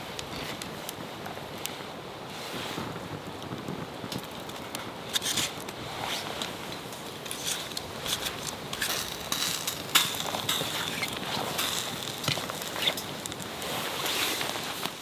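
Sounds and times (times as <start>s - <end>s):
campfire crackling: 2.8s - 15.0s.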